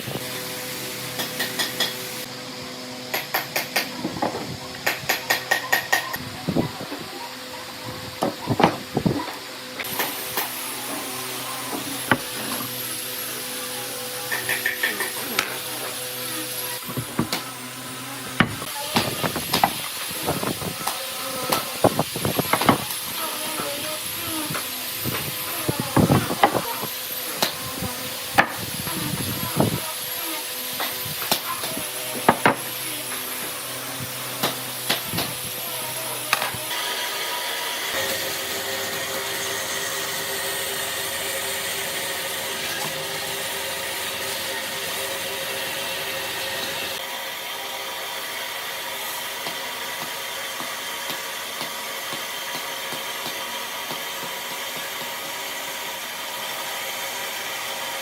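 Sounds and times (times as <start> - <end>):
power tool hissing hum: 0.0 - 58.0.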